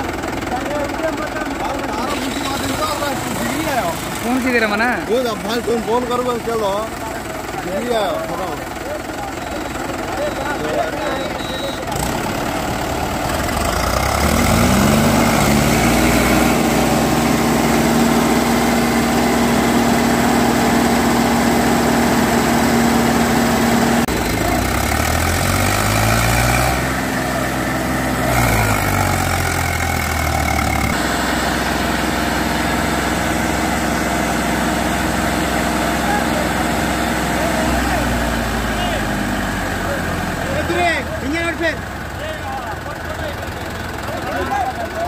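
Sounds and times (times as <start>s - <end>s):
diesel tractor engines under load: 0.0s - 45.0s.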